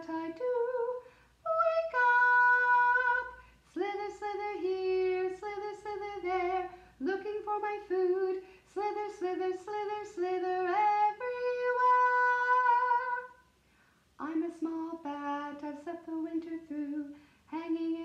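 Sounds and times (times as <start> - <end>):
woman singing unaccompanied: 0.0 - 13.4, 14.2 - 18.0.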